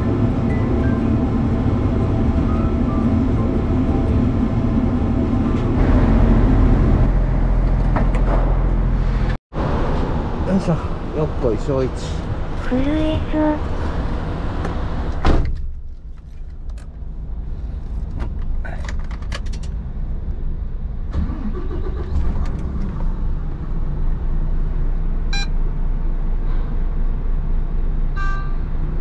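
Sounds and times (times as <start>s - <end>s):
engine hum: 0.0s - 29.0s.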